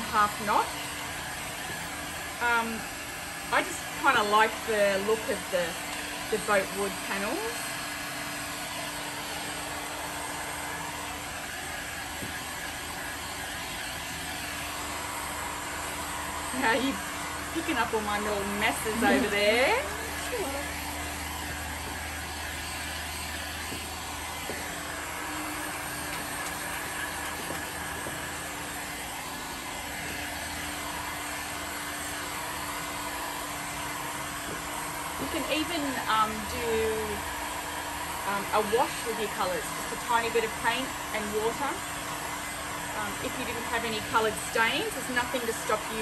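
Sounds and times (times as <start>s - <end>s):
heat gun blowing air: 0.0s - 46.0s.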